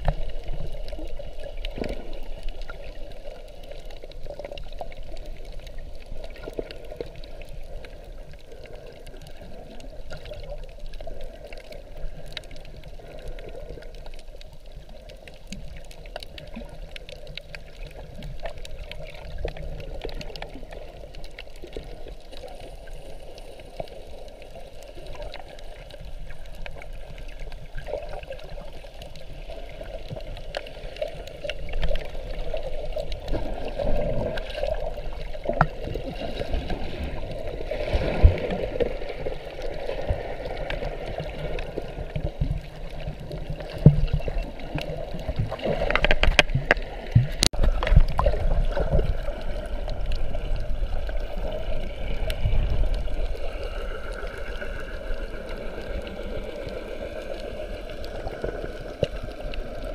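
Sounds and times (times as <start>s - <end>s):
muffled underwater rush: 0.0s - 59.9s
small underwater crackles and clicks: 0.0s - 59.9s.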